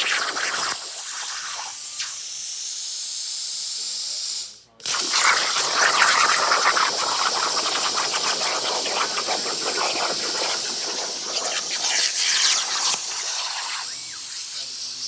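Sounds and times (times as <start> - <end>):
plasma cutter hissing and crackling: 0.0 - 15.0.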